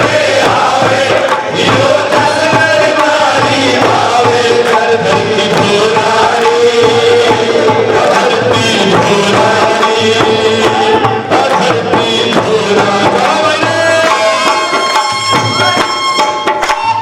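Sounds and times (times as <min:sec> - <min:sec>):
group singing devotional chant: 0:00.0 - 0:15.2
musical accompaniment: 0:00.0 - 0:17.0.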